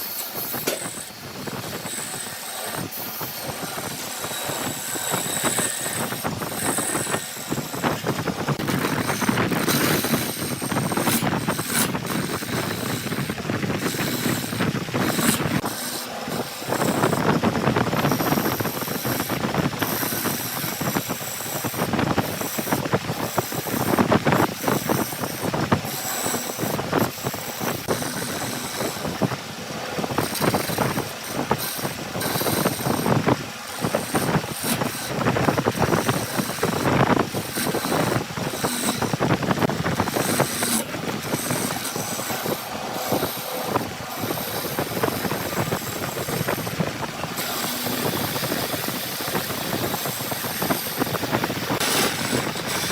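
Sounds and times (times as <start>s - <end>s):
heavy machinery running: 0.0s - 52.9s.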